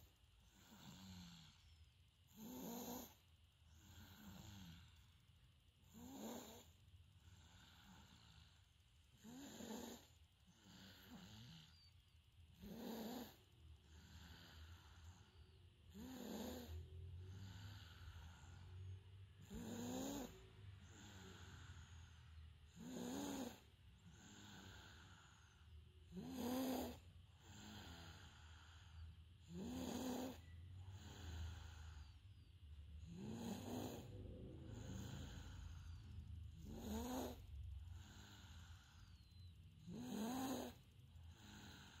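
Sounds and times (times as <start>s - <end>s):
person snoring: 0.0s - 1.6s, 2.3s - 5.0s, 5.8s - 8.6s, 9.2s - 11.9s, 12.5s - 32.2s, 33.0s - 42.0s
soft breathing: 0.0s - 42.0s.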